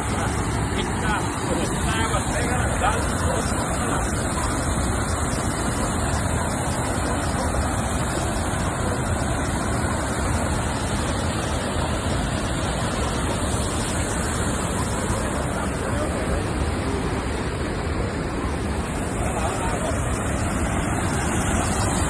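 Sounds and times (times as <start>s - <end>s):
water rushing over spillway: 0.0s - 22.0s.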